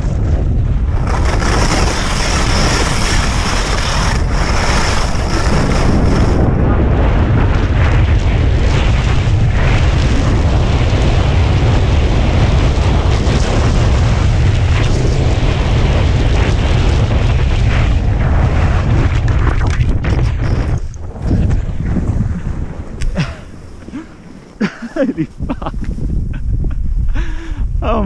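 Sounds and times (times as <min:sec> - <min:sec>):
skis scraping over snow: 0:00.0 - 0:26.2
wind buffeting microphone: 0:00.0 - 0:28.0.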